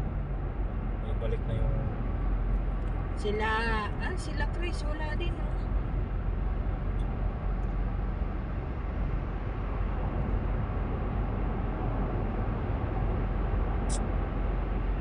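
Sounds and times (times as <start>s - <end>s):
car cabin road and engine noise: 0.0s - 15.0s.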